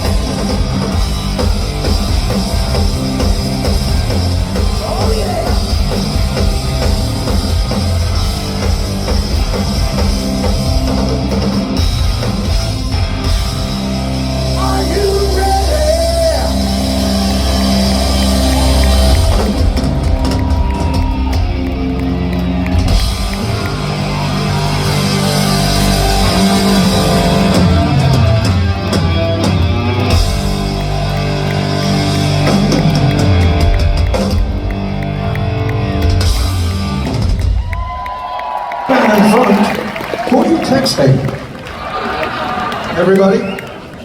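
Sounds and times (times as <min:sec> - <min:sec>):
live rock band playing: 0:00.0 - 0:39.7.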